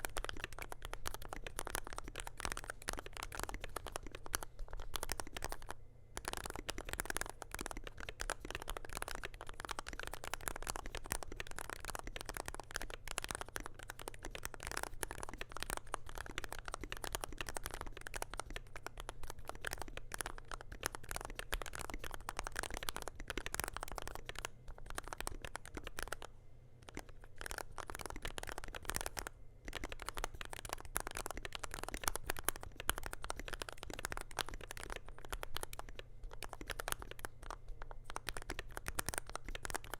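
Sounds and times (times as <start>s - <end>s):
keyboard typing clacks: 0.0s - 39.9s.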